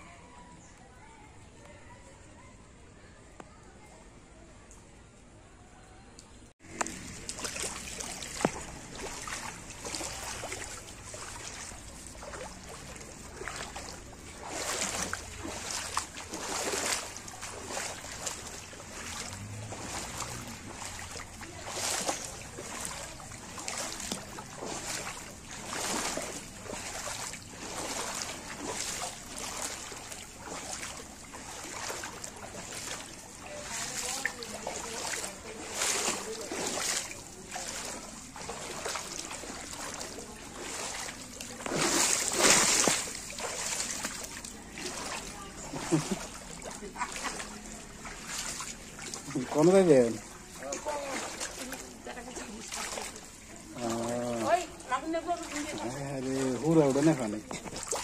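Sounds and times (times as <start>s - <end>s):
wading through water: 6.6s - 58.0s.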